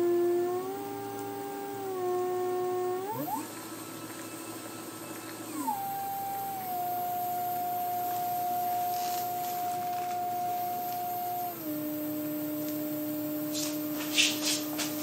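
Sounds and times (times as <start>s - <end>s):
stepper motor whining: 0.0s - 15.0s.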